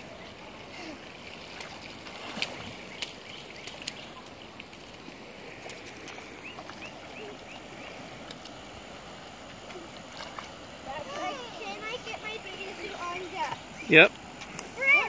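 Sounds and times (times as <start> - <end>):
flowing creek water: 0.0 - 15.0.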